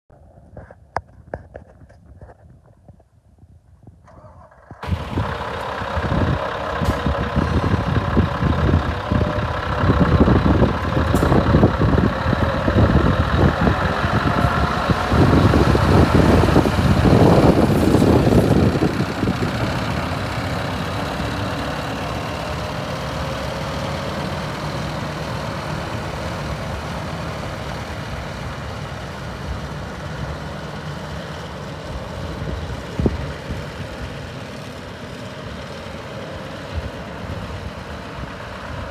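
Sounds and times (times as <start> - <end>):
diesel truck driving past: 4.2 - 38.9.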